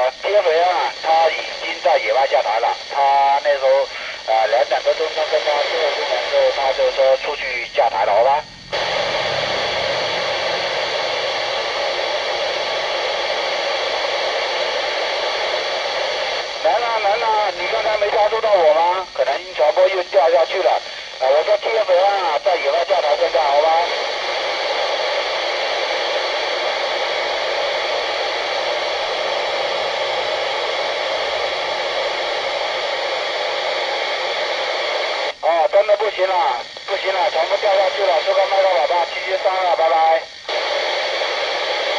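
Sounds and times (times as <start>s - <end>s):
radio static hiss: 0.0s - 41.9s.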